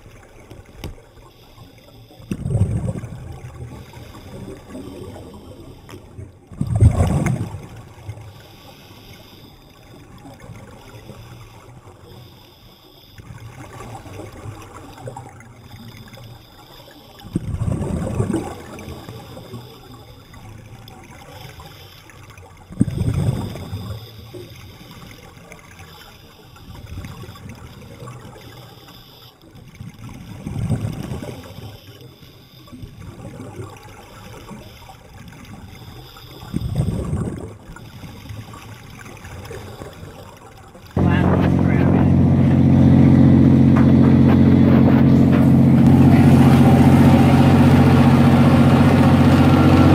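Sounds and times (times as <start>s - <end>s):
faint wash of water: 0.0s - 49.9s
underwater exhaust bubbles: 0.0s - 49.9s.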